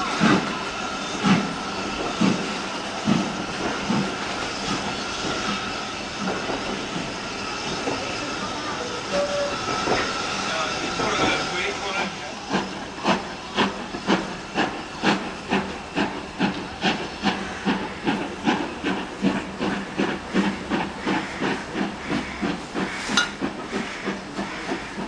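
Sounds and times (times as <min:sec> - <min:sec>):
steam locomotive chuffing: 0:00.0 - 0:25.0.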